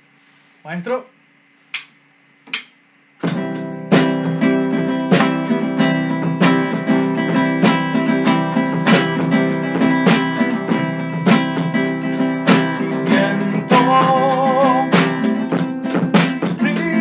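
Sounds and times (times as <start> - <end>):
acoustic guitar strumming: 3.2 - 17.0.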